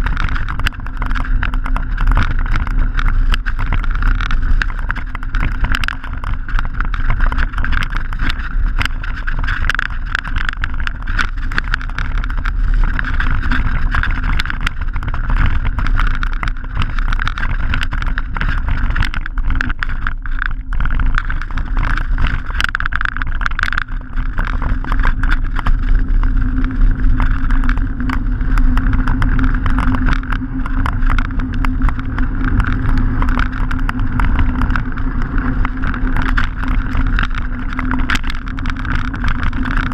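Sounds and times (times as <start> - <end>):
bike rattles and knocks: 0.0 - 39.9
bike tyres rumbling on gravel: 0.0 - 39.9.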